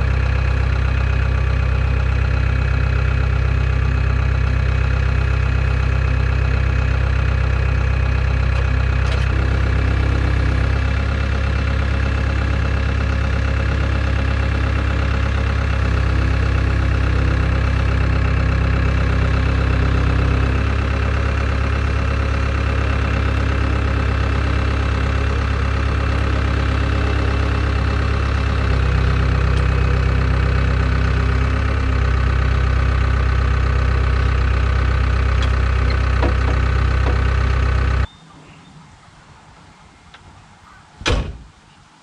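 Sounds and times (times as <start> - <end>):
diesel engine running: 0.0 - 38.1.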